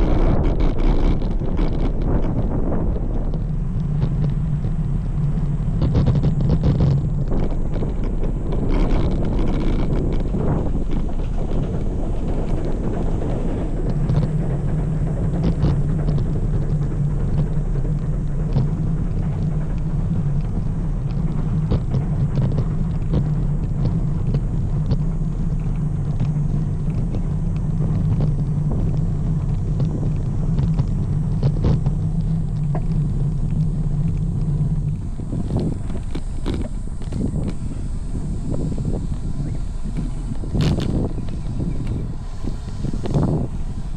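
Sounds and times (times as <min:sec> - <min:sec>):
bike tyres rumbling on pavement: 0:00.0 - 0:43.9
small ticks from bumps: 0:00.0 - 0:43.9
steady low hum: 0:00.0 - 0:43.9
wind on microphone: 0:00.0 - 0:43.9.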